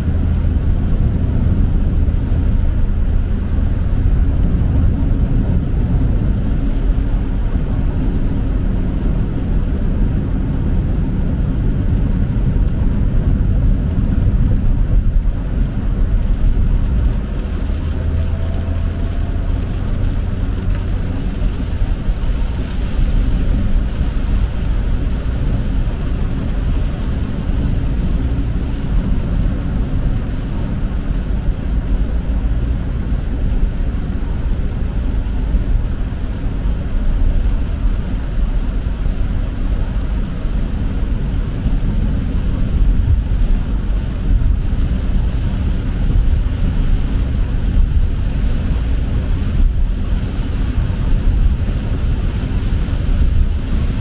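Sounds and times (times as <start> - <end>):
car engine: 0.0 - 54.0
tyre and road noise: 0.0 - 54.0.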